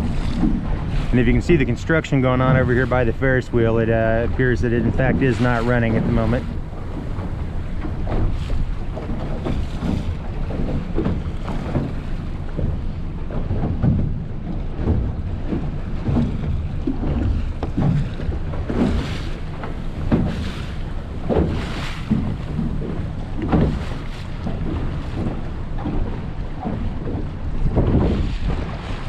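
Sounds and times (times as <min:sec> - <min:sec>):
boat engine rumble: 0:00.0 - 0:29.0
water splashing against hull: 0:00.0 - 0:29.0
wind buffeting microphone: 0:00.0 - 0:29.0.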